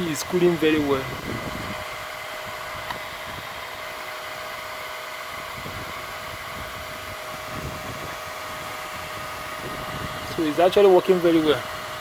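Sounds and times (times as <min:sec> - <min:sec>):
electric blower fan running: 0:00.0 - 0:12.0.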